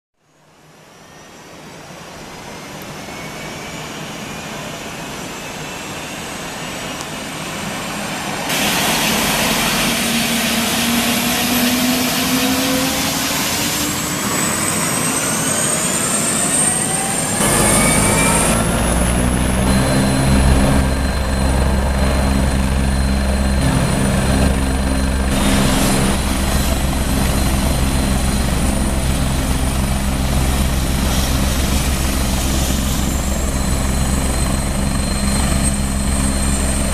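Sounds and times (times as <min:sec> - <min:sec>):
helicopter turbine whine: 0:00.4 - 0:36.9
helicopter rotor beat: 0:04.2 - 0:36.9.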